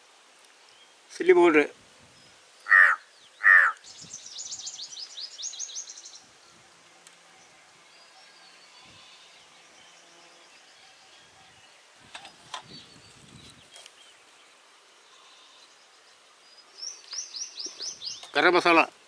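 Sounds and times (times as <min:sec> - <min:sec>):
insects buzzing: 0:01.9 - 0:19.0
small birds chirping: 0:02.1 - 0:18.9.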